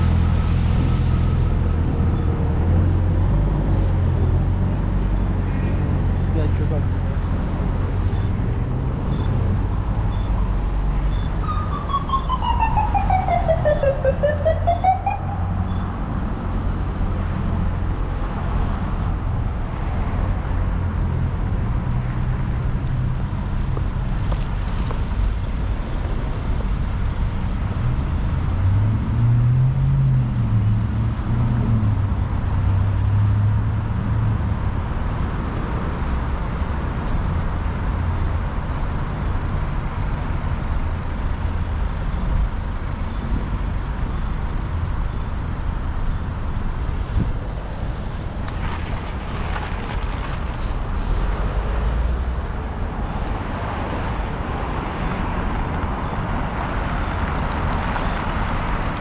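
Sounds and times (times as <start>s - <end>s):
city street traffic: 0.0s - 59.0s.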